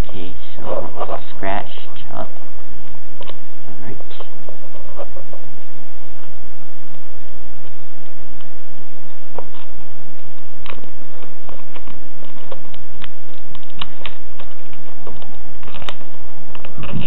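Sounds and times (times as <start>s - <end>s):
microphone handling rumble: 0.0s - 17.0s.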